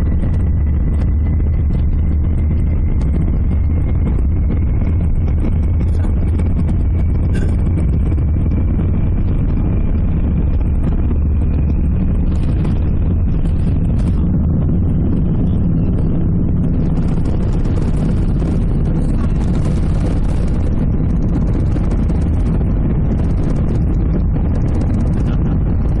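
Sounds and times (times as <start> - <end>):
faint high whine: 0.0 - 26.0
jet engine cabin rumble: 0.0 - 26.0.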